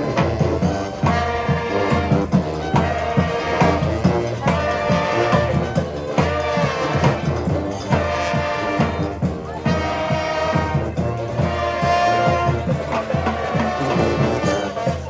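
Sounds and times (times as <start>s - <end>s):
brass horns playing: 0.0s - 15.0s
steady drum beat: 0.0s - 15.0s.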